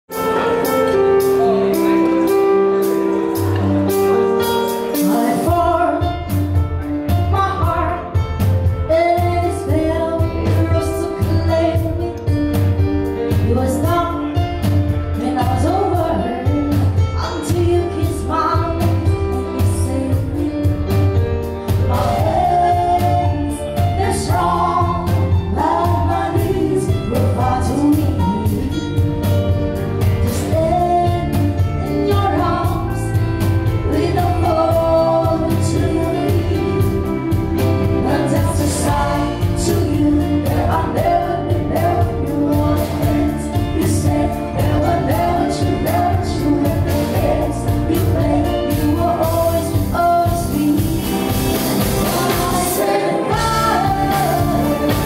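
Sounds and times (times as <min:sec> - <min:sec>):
bass guitar: 0:00.0 - 0:55.0
drums: 0:00.0 - 0:55.0
keyboard chords: 0:00.1 - 0:55.0
woman singing: 0:04.9 - 0:12.3, 0:13.2 - 0:29.0, 0:30.0 - 0:55.0.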